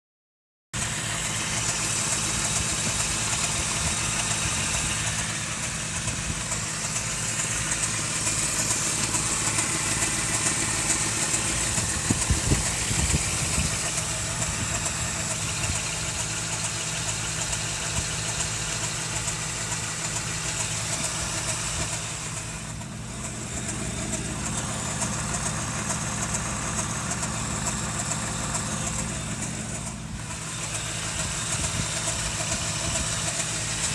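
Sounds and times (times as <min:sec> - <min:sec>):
car engine idling: 0:00.8 - 0:33.9
engine knocks: 0:00.8 - 0:33.9.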